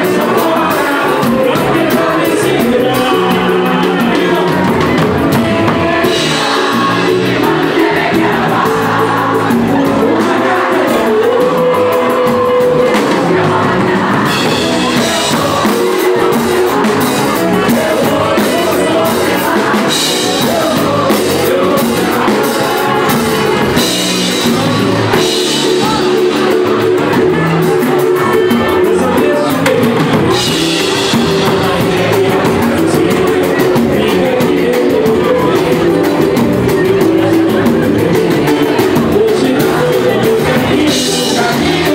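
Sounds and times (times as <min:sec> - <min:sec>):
people singing: 0:00.0 - 0:41.9
samba band playing: 0:00.0 - 0:41.9.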